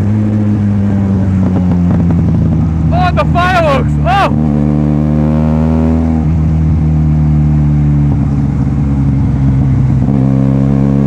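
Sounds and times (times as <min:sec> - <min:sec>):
loud motorcycle engine: 0:00.0 - 0:11.0.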